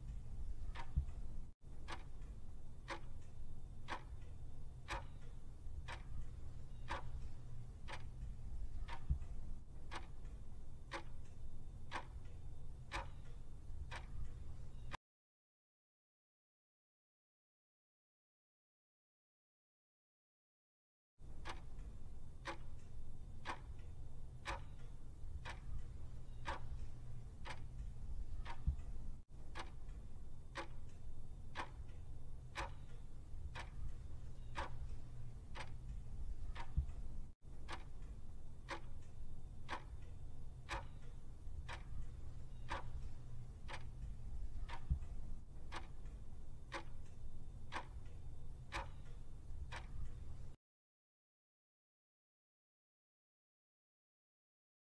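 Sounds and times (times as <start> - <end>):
clock ticking: 0.0 - 15.0, 21.2 - 50.6
low steady hum: 0.0 - 15.0, 21.2 - 50.6.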